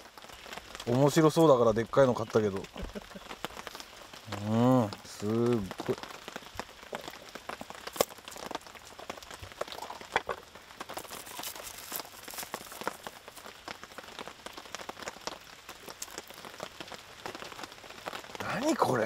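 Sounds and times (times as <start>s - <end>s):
rain pattering: 0.0s - 19.0s.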